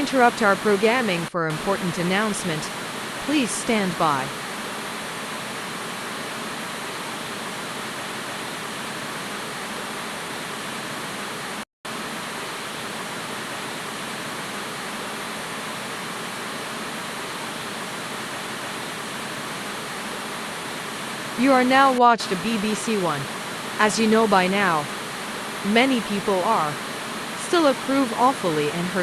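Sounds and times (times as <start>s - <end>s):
static hiss: 0.0s - 29.0s.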